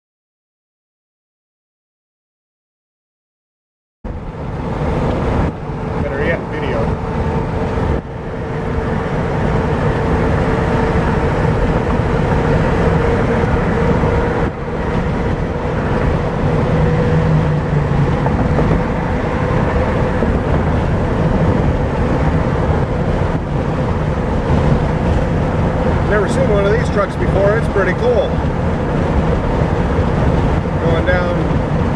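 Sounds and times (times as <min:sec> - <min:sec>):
car road noise rumble: 0:04.1 - 0:31.9.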